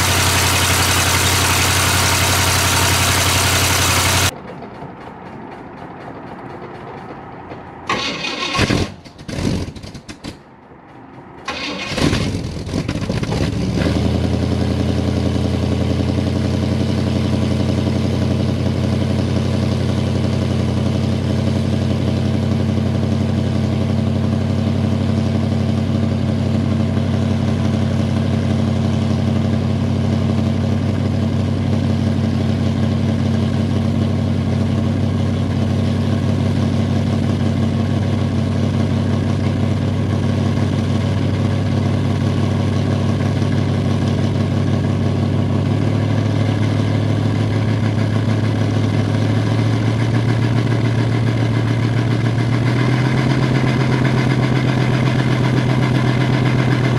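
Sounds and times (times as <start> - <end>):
car engine idling: 0.0 - 8.5, 14.3 - 56.9.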